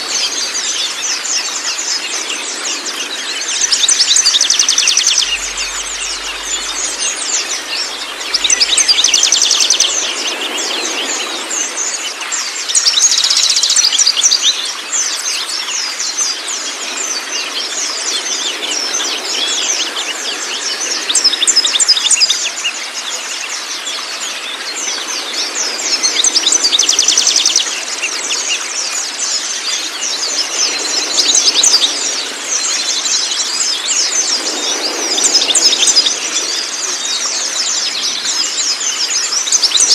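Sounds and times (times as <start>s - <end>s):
flowing water: 0.0s - 39.9s
songbirds chirping and trilling: 0.0s - 39.9s.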